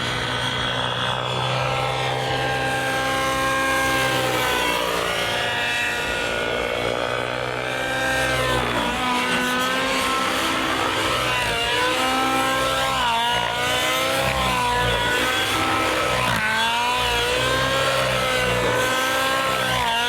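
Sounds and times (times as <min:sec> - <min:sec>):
model aircraft engine in flight: 0:00.0 - 0:20.0.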